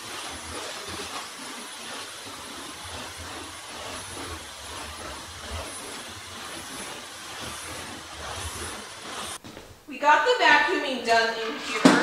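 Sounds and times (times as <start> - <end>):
stick vacuum running: 0.0 - 12.0.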